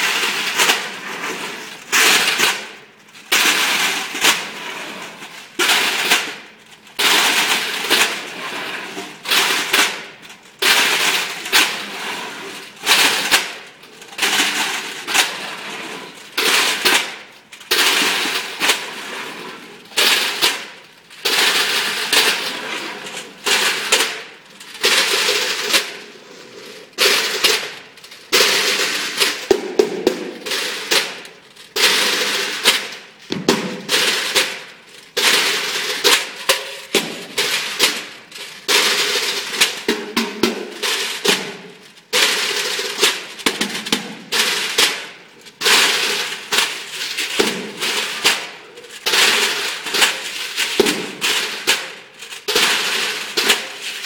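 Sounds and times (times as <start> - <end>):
metal pails banged and scraped: 0.0 - 54.0.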